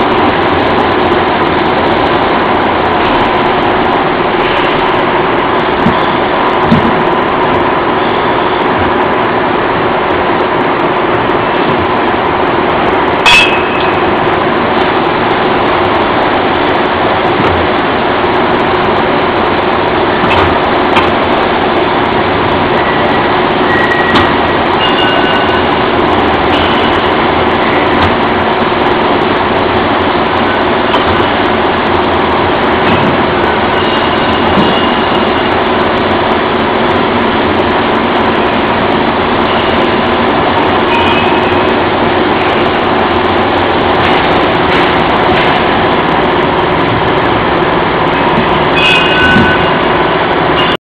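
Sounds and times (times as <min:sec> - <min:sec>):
constant hum: 0:00.0 - 0:50.7
machinery noise: 0:00.0 - 0:50.8.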